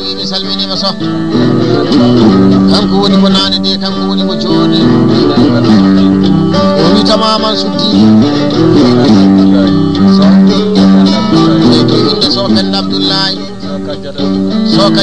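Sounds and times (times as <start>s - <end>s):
bass line: 0.0s - 15.0s
plucked guitar melody: 0.0s - 15.0s.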